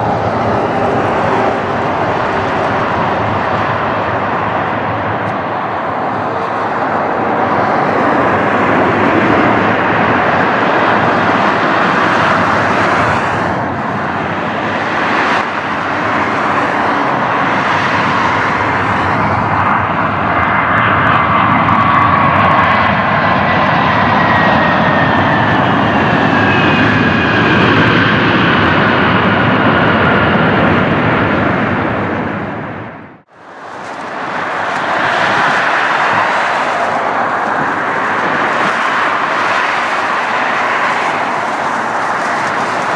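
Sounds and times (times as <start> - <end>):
jet airliner engines passing: 0.0 - 42.9.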